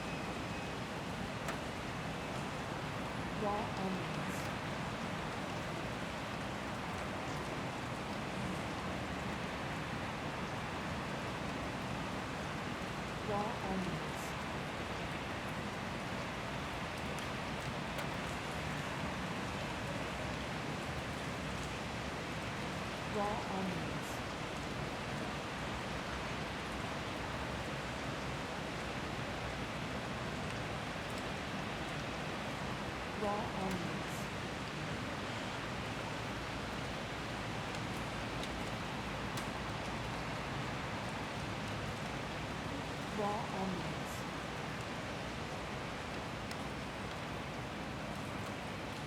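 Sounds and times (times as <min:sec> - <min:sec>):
city street ambience: 0:00.0 - 0:49.0.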